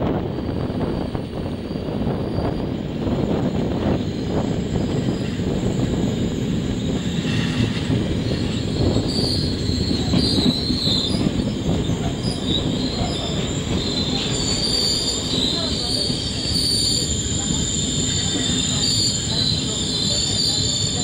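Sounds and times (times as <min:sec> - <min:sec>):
train wheels rumbling on track: 0:00.0 - 0:21.0
high metallic brake squeals: 0:00.3 - 0:21.0.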